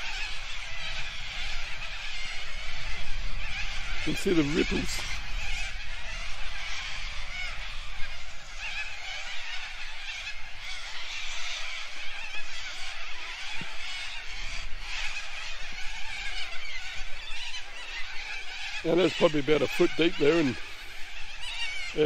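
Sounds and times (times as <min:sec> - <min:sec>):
distant waterbird calls: 0:00.0 - 0:22.0
steady outdoor hiss: 0:00.0 - 0:22.0.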